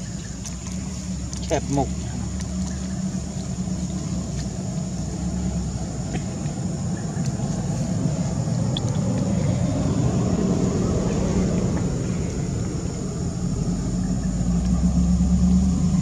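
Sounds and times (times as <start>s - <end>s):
engine rumble: 0.0s - 16.0s.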